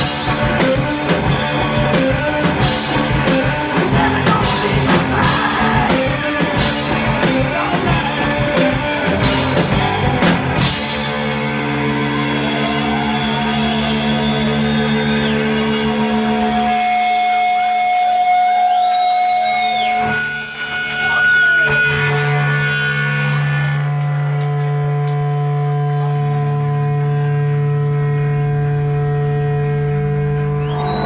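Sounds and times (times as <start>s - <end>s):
held electric guitar notes: 0.0s - 31.0s
live rock band playing: 0.0s - 31.0s.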